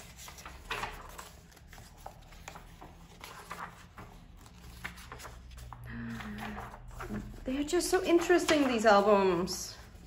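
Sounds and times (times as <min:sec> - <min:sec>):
paper and cardboard rustling: 0:00.0 - 0:10.0.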